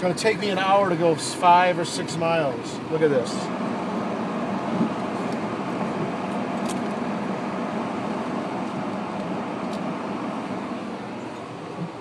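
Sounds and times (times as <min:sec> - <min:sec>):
car interior road rush: 0:00.0 - 0:12.0.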